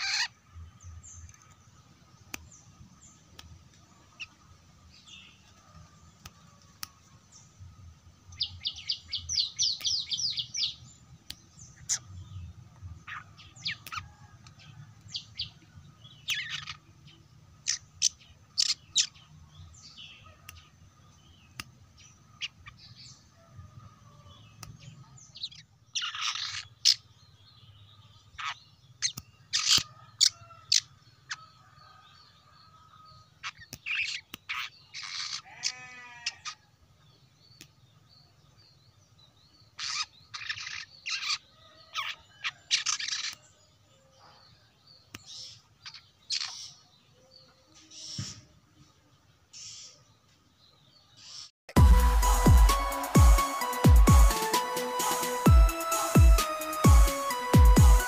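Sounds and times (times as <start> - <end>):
bird chirping: 0.0 - 51.6.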